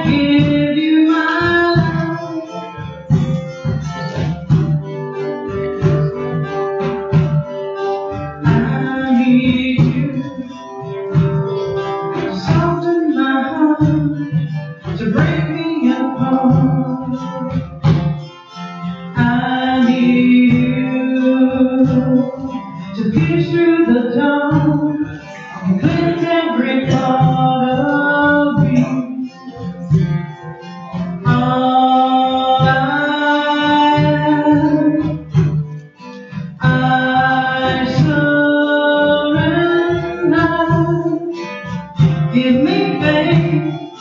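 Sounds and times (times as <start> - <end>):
person singing: 0.0 - 18.1, 19.0 - 30.4, 31.0 - 44.0
strummed acoustic guitar: 0.0 - 44.0.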